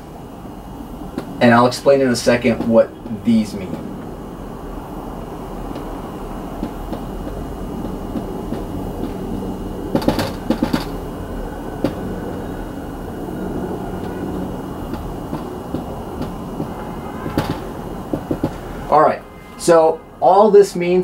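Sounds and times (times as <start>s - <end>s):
steady low rumble: 0.0s - 20.2s.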